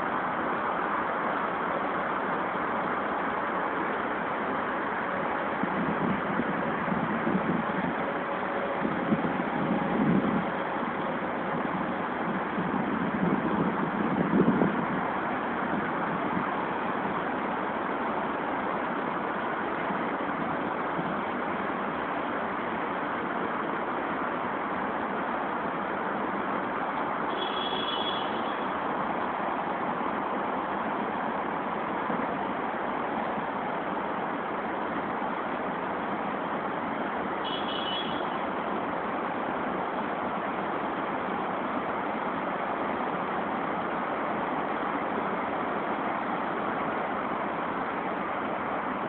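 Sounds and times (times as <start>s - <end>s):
city road traffic: 0.0s - 49.0s
steady urban background noise: 0.0s - 49.0s.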